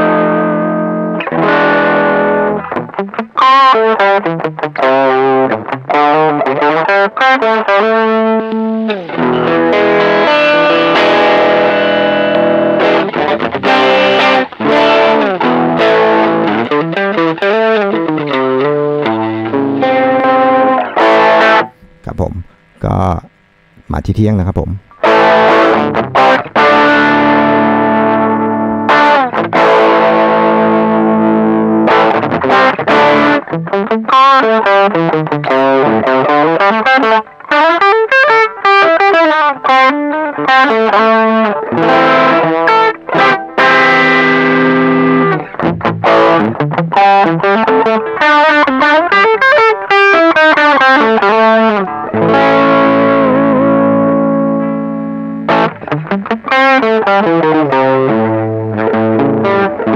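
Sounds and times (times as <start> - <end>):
distorted electric guitar: 0.0 - 59.9.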